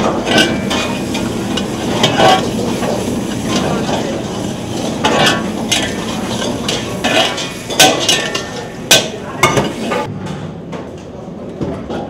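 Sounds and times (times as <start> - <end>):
metal ladle scraping metal pan: 0.0 - 10.1.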